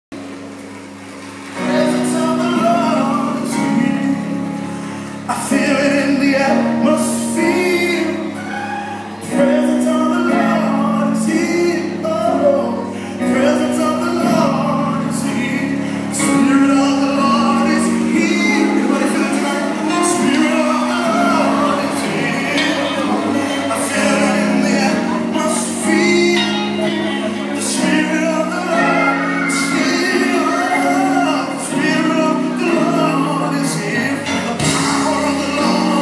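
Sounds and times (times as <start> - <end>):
steady musical accompaniment: 0.2 - 36.0
gospel singing: 1.4 - 36.0.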